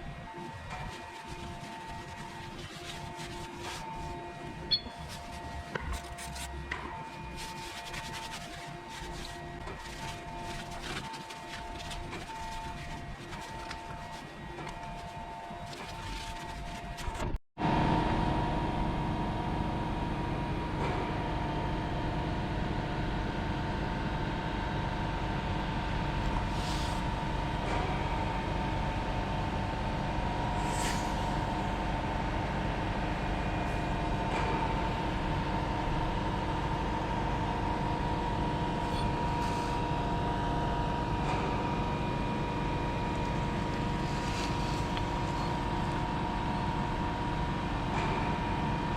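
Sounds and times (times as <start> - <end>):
machine humming over low rumble: 0.0 - 20.8, 22.7 - 48.9.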